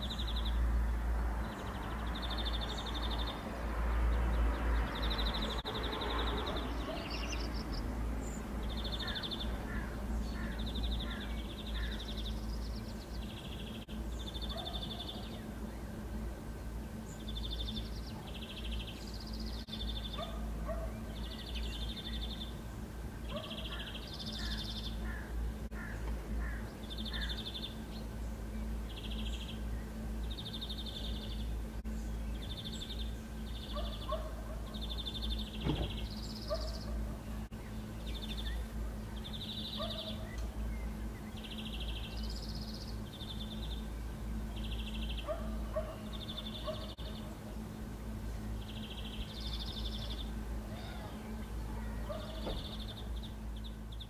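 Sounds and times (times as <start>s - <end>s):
low hum and rumble: 0.0s - 54.0s.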